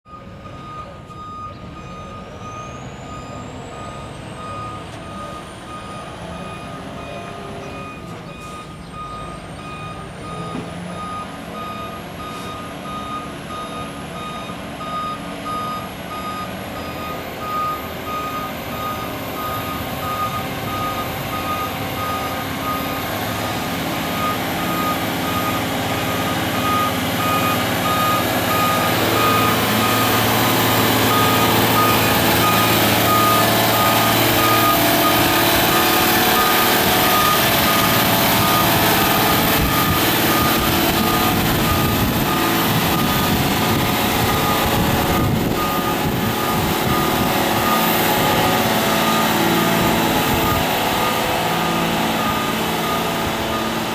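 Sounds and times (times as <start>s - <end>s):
diesel engine: 0.0s - 53.9s
truck reverse alarm beeping: 0.0s - 53.9s.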